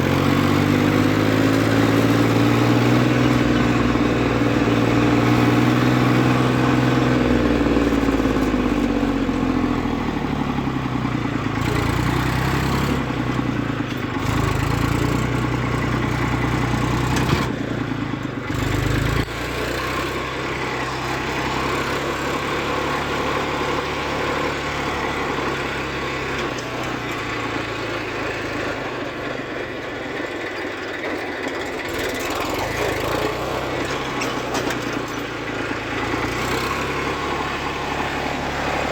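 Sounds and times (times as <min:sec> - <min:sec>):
tractor engines running: 0:00.0 - 0:38.9.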